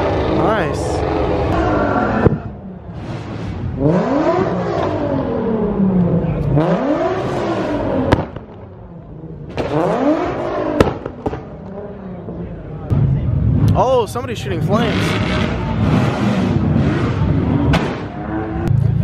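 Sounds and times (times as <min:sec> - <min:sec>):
car engine revving: 0:00.0 - 0:13.8, 0:14.5 - 0:19.0
loud exhaust bangs: 0:00.0 - 0:19.0.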